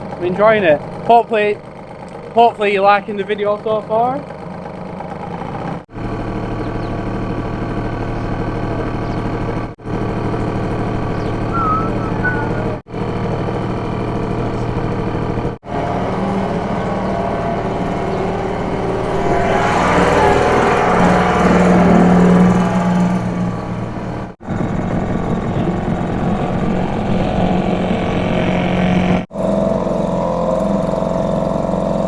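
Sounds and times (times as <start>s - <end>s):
outboard motor running: 0.0s - 32.0s.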